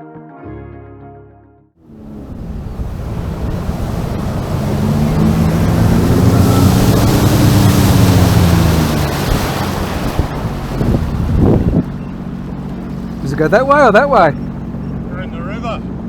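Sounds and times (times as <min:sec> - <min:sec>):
jet ski engine running: 0:01.8 - 0:16.0
rush of wind and water: 0:01.9 - 0:16.0.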